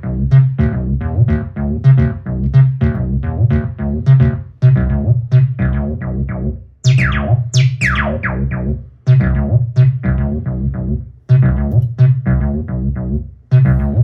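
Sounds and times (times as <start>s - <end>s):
acid synth bassline: 0.0s - 14.0s.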